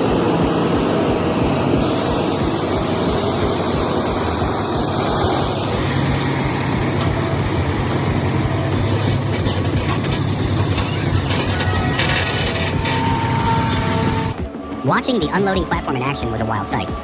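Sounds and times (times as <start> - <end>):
heavy vehicle engine running: 0.0 - 14.5.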